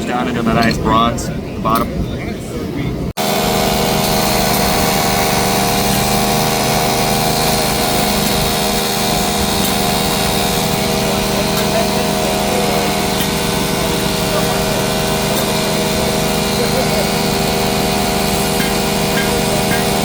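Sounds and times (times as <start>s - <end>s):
machine motor humming: 3.2s - 20.0s.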